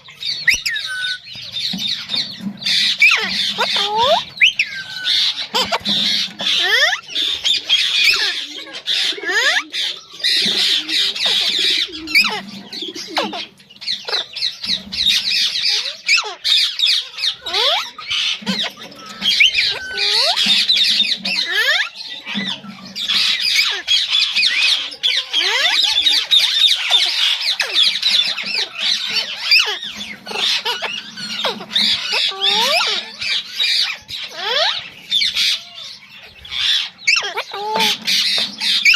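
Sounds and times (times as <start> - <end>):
parrots squawking and chattering: 0.0 - 38.9.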